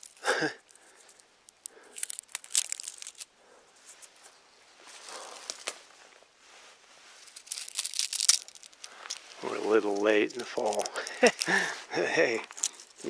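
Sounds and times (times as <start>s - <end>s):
dry leaves crinkling: 0.0s - 13.0s.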